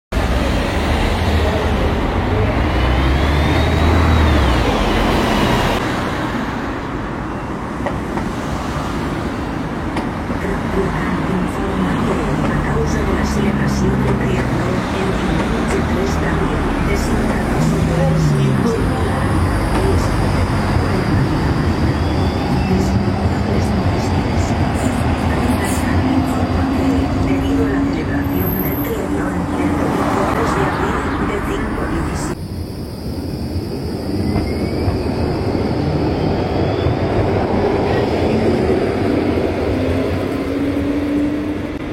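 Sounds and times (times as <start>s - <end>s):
tram rumbling: 0.1s - 41.9s.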